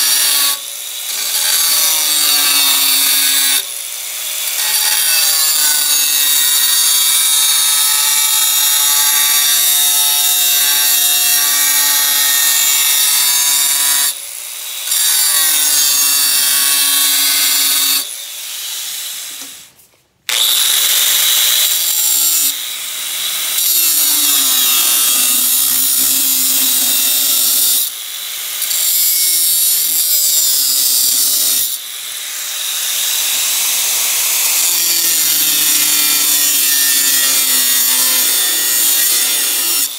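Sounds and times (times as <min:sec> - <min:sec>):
angle grinder cutting steel: 0:00.0 - 0:19.7, 0:20.3 - 0:39.9.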